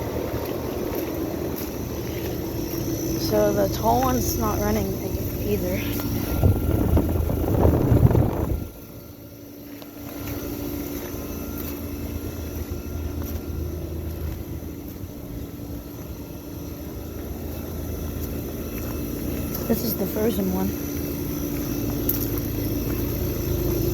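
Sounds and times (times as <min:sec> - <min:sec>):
air conditioning units droning: 0:00.0 - 0:23.9.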